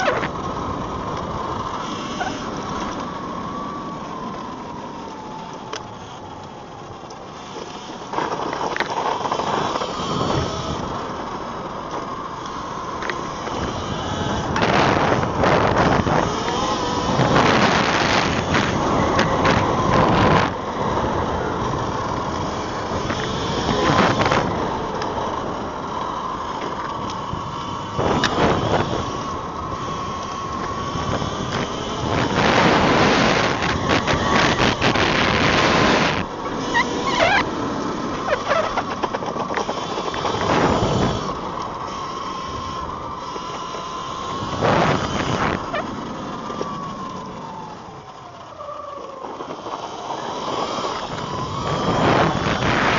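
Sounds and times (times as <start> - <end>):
electric motor whining: 0.0 - 52.9
wind noise on microphone: 0.0 - 52.9.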